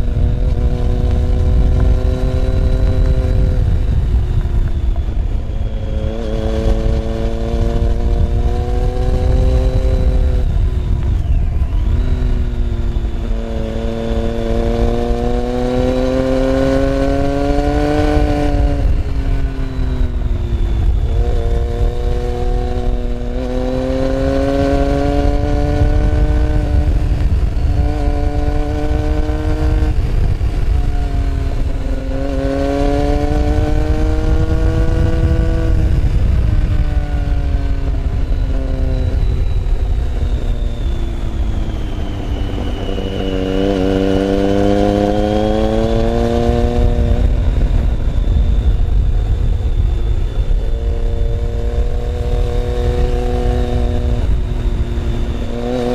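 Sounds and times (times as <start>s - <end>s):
motorcycle engine: 0.0s - 55.9s
wind rumble on microphone: 0.0s - 55.9s.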